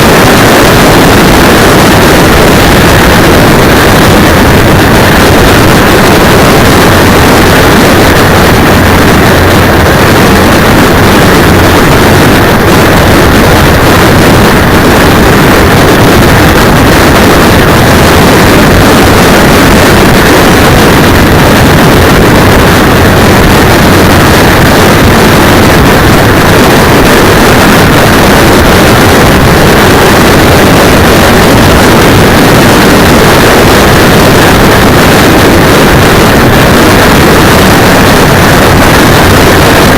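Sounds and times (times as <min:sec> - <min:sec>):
distorted wind and riding noise: 0:00.0 - 0:39.9.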